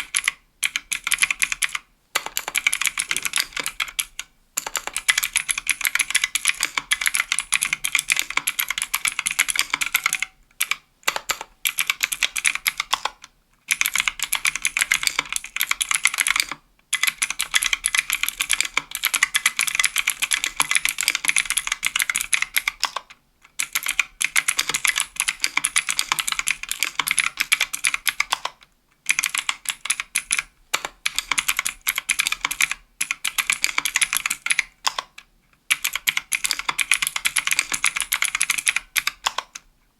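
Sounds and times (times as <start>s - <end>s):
typing on clicky keyboard: 0.0s - 39.7s.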